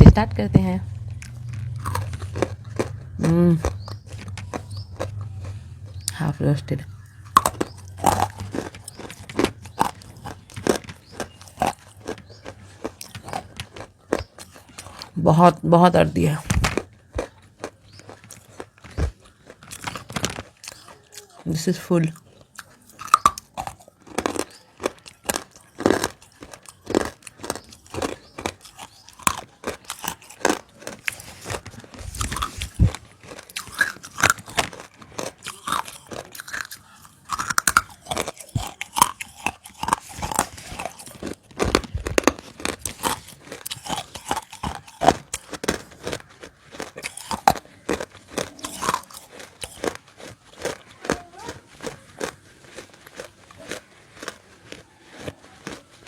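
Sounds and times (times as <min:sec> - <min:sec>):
crunching and chewing: 0:00.9 - 0:56.0.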